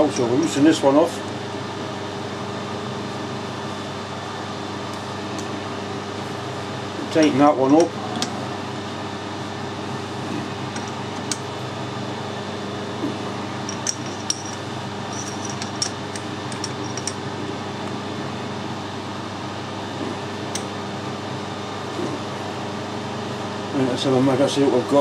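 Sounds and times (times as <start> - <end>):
steady workshop hum: 0.0 - 25.0.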